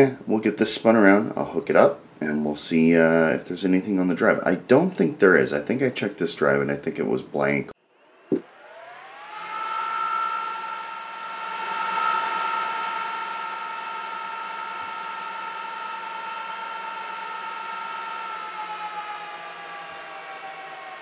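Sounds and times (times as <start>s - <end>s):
server cooling fans whining: 0.0s - 21.0s.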